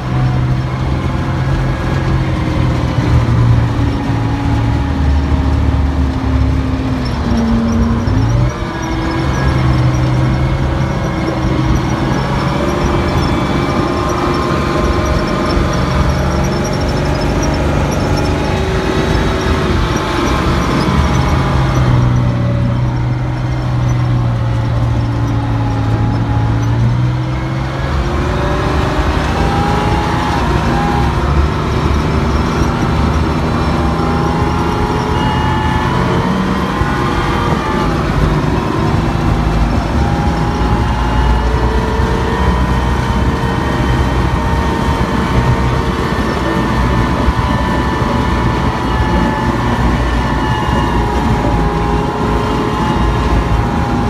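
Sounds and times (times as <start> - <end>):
armoured vehicle engine rumble: 0.0 - 54.0.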